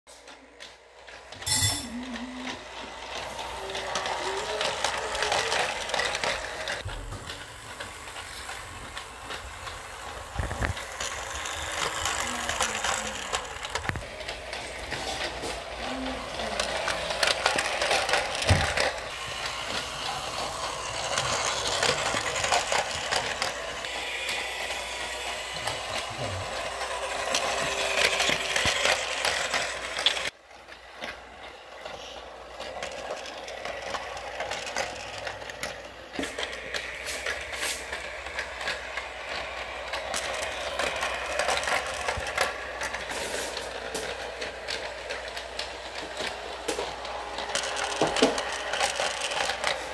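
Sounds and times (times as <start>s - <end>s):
toy train rattling on track: 0.2s - 49.9s.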